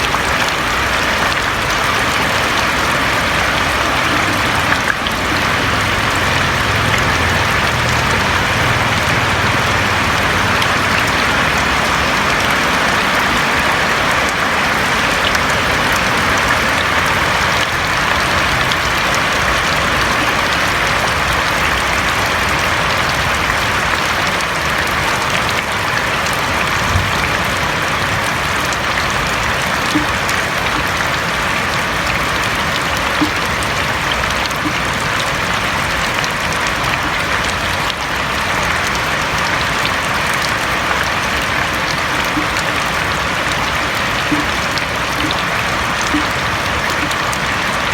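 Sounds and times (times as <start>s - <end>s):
rain falling on a roof: 0.0s - 47.9s.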